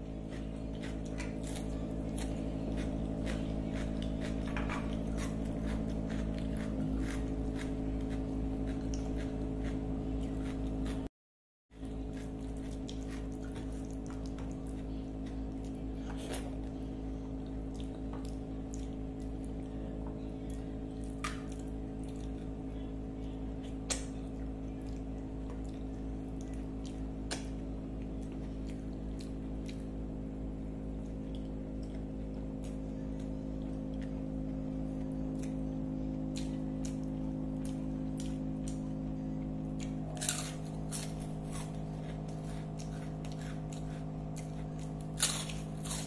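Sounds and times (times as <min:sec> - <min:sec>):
chewing: 0:00.0 - 0:11.1, 0:11.8 - 0:30.0, 0:30.9 - 0:46.0
steady low hum: 0:00.0 - 0:11.1, 0:11.7 - 0:46.0.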